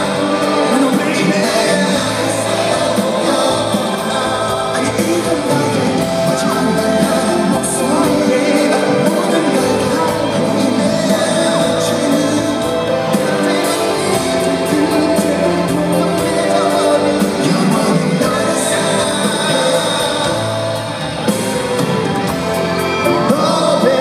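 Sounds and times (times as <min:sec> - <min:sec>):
man singing into microphone: 0:00.0 - 0:21.0, 0:23.0 - 0:24.0
live pop backing music: 0:00.0 - 0:24.0.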